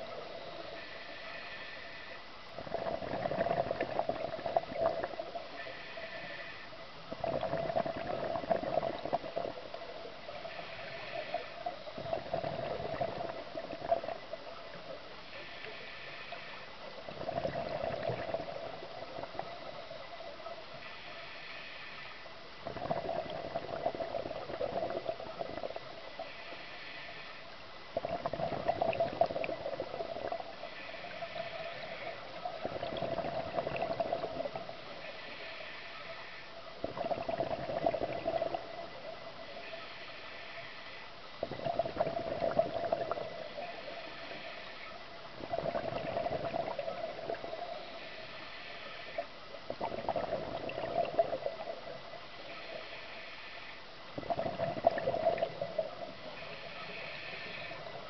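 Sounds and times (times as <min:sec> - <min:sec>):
exhaled bubbles gurgling underwater: 0:00.0 - 0:20.9, 0:21.9 - 0:40.6, 0:41.2 - 0:58.0
regulator inhale hiss: 0:00.1 - 0:09.6, 0:10.2 - 0:14.2, 0:14.8 - 0:17.1, 0:20.7 - 0:22.5, 0:23.2 - 0:37.2, 0:37.9 - 0:41.4, 0:42.3 - 0:58.0.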